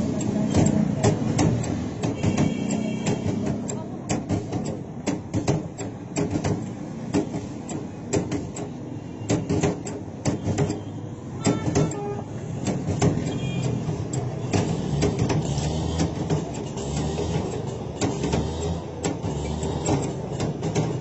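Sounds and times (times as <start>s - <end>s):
french fry cutter clacking: 0.0s - 21.0s.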